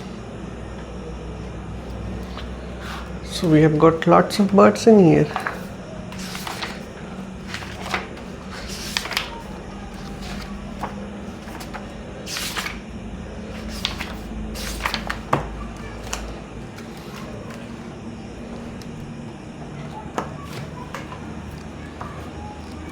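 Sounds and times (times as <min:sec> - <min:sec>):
steady low hum: 0:00.0 - 0:22.9
book pages turning: 0:01.6 - 0:22.9.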